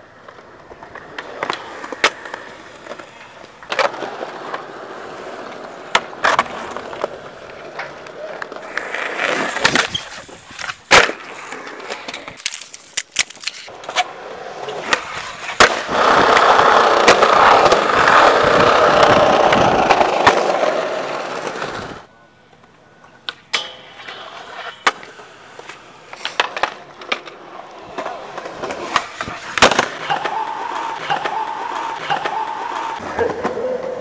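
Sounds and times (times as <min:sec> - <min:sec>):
skateboard wheels rolling on concrete: 0:00.0 - 0:34.0
skateboards clacking on ground: 0:00.0 - 0:34.0.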